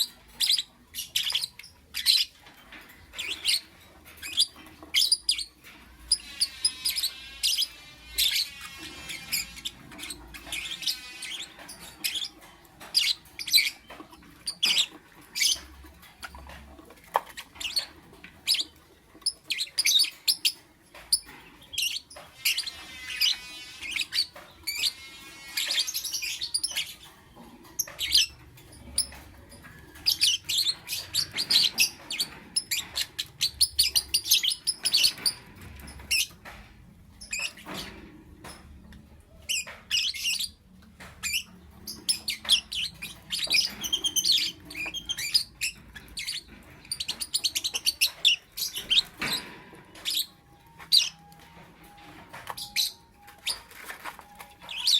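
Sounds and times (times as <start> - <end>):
lovebirds chirping: 0.0 - 54.9.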